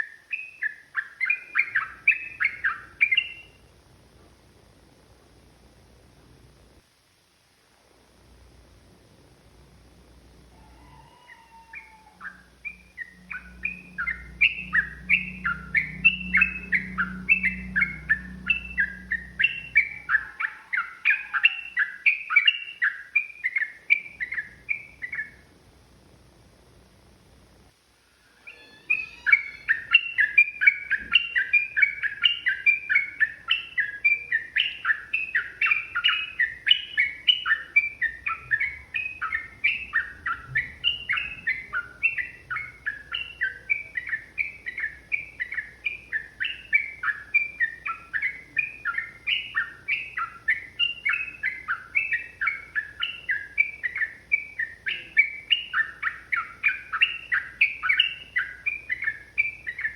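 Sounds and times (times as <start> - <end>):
bird singing chattering notes: 0.0 - 3.6, 10.8 - 25.4, 28.5 - 59.9.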